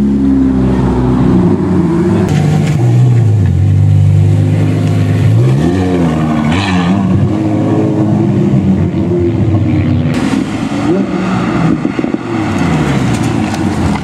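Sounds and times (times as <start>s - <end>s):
car engine changing gears: 0.0s - 14.0s.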